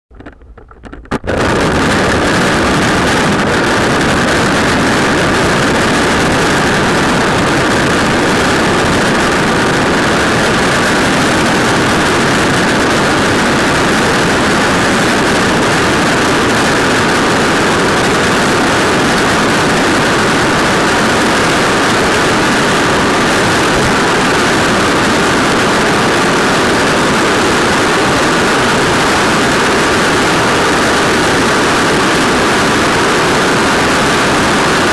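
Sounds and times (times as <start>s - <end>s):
longboard wheels rolling on asphalt: 0.1s - 34.9s.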